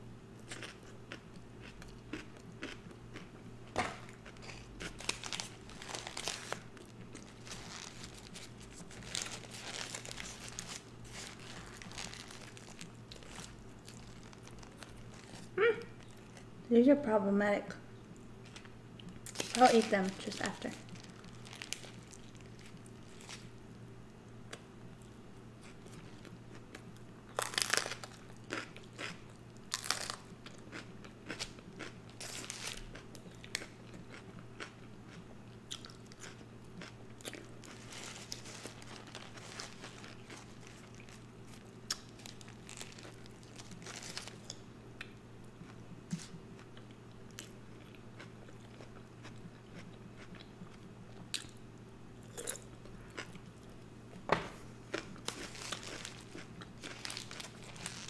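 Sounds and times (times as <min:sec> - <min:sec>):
steady low hum: 0:00.0 - 0:58.0
burger crunching and chewing: 0:00.4 - 0:16.5, 0:18.4 - 0:23.8, 0:24.5 - 0:44.6, 0:45.6 - 0:51.6, 0:54.7 - 0:58.0.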